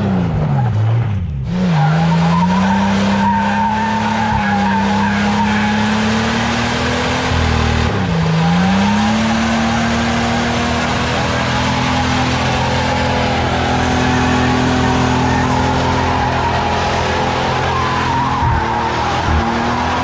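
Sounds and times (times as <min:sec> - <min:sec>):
engine at high revs: 0:00.0 - 0:20.0
tyres squealing and scrabbling: 0:01.6 - 0:07.4, 0:08.2 - 0:20.0.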